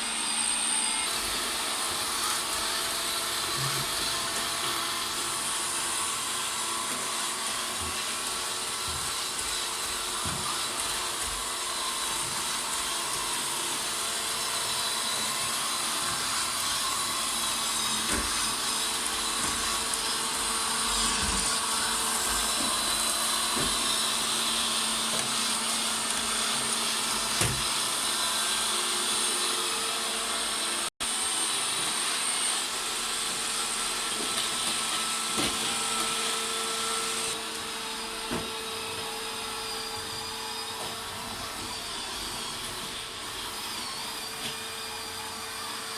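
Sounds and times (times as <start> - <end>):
robot vacuum whirring: 0.0 - 45.9.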